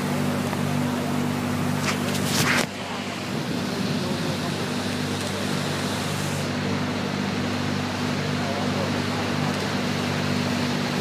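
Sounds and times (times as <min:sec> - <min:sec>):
engine hum: 0:00.0 - 0:11.0
water rushing aside: 0:00.0 - 0:11.0.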